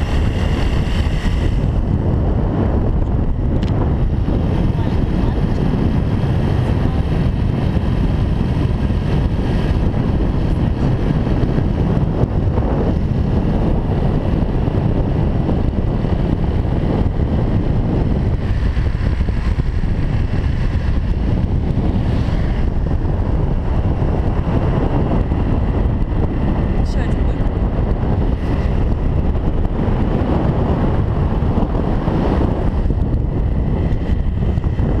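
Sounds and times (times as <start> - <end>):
motorbike running: 0.0 - 35.0
wind buffeting microphone: 0.0 - 35.0.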